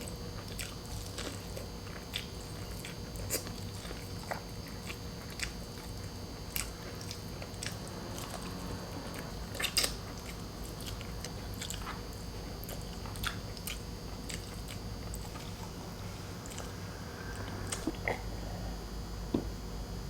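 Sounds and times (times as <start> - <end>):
person chewing food: 0.0 - 18.7
steady low hum: 0.0 - 20.0.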